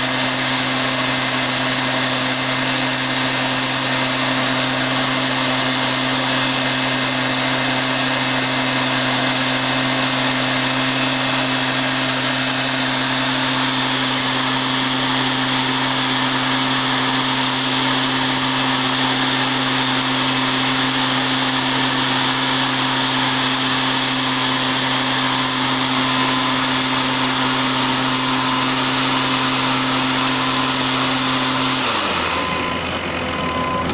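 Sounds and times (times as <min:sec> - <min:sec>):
leaf blower engine droning: 0:00.0 - 0:33.9.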